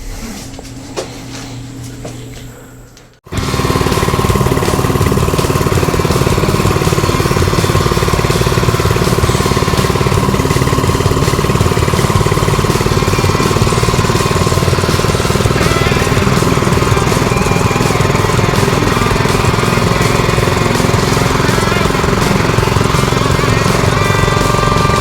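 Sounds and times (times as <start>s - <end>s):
small engine running: 3.3s - 25.0s.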